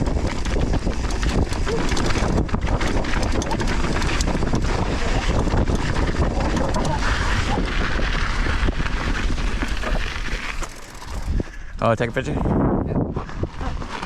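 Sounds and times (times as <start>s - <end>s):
bike rattling clicks: 0.0s - 11.9s
wind buffeting microphone: 0.0s - 14.0s.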